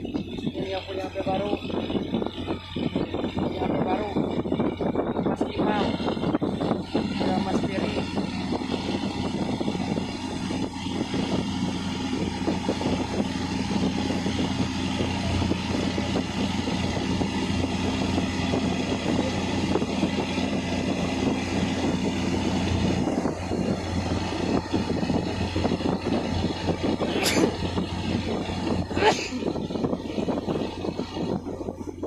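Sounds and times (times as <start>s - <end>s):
boat engine humming: 0.0s - 32.0s
continuous rushing noise: 0.0s - 32.0s.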